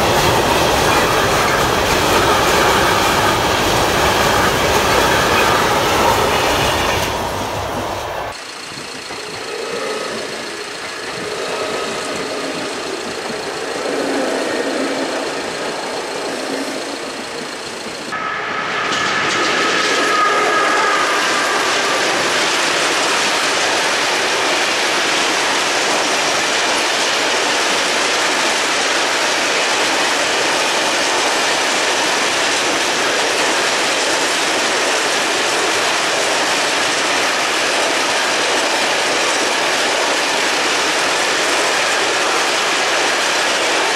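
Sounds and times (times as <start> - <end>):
train wheels clattering on rails: 0.0 - 43.9.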